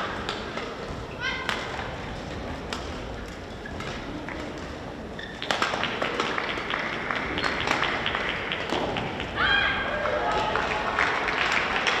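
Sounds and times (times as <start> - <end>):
indoor sports hall ambience: 0.0 - 12.0.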